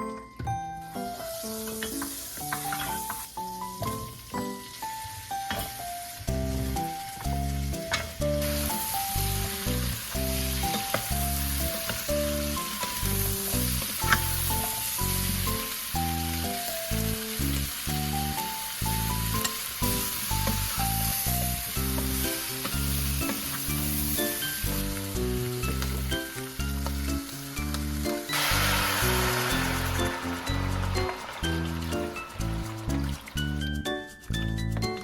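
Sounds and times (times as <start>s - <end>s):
background music with plucked melody: 0.0s - 35.0s
food sizzling in a pan: 0.9s - 34.4s.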